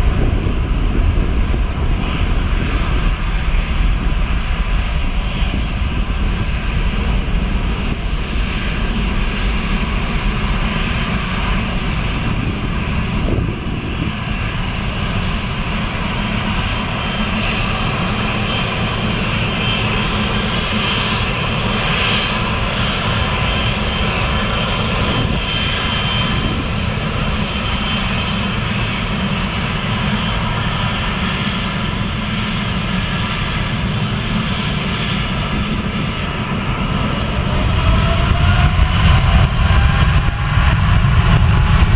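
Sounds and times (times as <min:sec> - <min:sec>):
jet engines running: 0:00.0 - 0:41.9.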